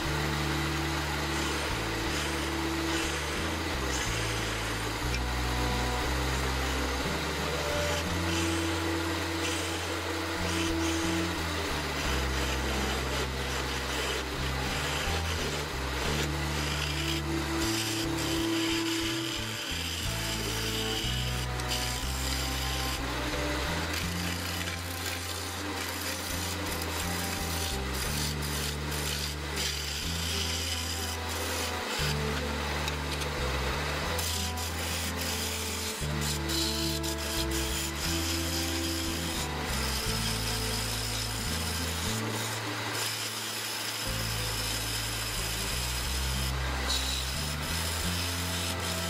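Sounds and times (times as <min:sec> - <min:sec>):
background music with bass line: 0:00.0 - 0:42.9
lathe tool rasping on wood: 0:00.0 - 0:49.0.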